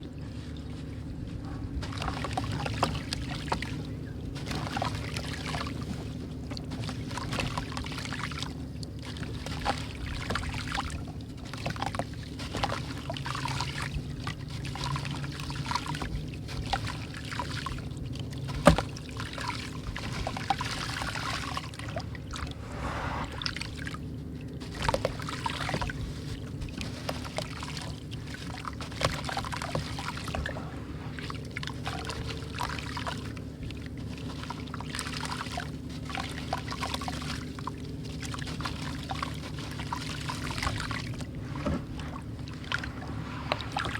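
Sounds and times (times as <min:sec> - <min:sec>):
low steady hum: 0:00.0 - 0:43.9
bricks crumbling in water: 0:01.8 - 0:22.6, 0:23.3 - 0:43.9.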